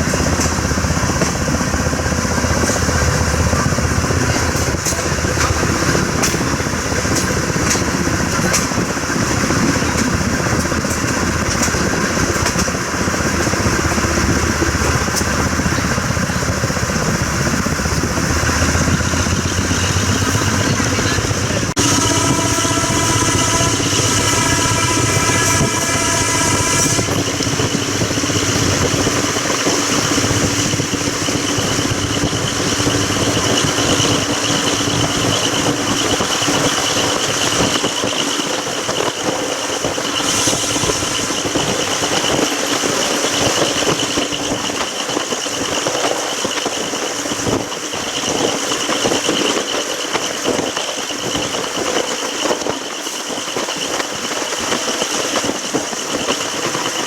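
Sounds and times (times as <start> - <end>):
train running gear rattle: 0.0 - 57.0
high squealing whine: 2.1 - 57.0.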